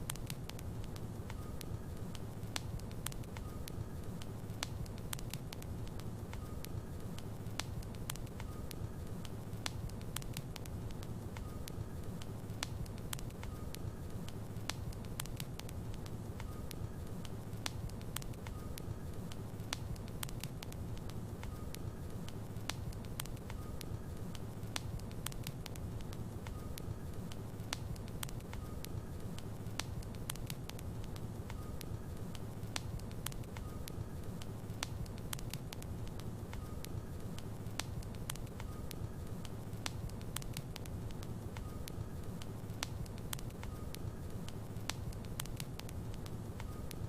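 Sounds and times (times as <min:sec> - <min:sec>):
fire crackling and popping: 0:00.0 - 0:47.0
low rumble of flames: 0:00.0 - 0:47.0.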